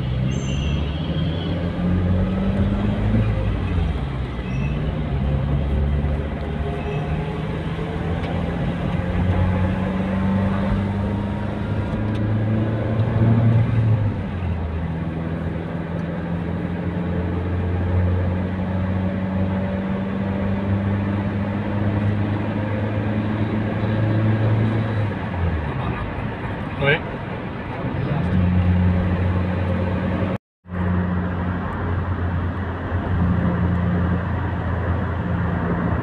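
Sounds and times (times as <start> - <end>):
car engine and tyre drone: 0.0 - 36.0.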